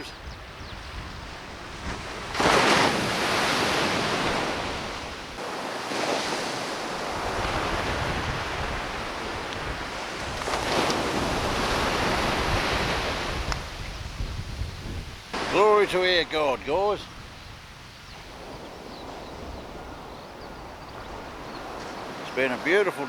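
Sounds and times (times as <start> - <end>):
waves breaking on shore: 0.0 - 23.0
wind buffeting microphone: 0.0 - 23.0.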